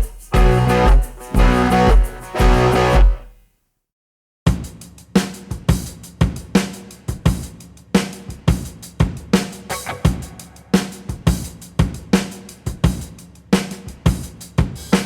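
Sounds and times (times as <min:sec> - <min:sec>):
rock drum kit beat: 0:00.0 - 0:03.3, 0:04.5 - 0:15.0.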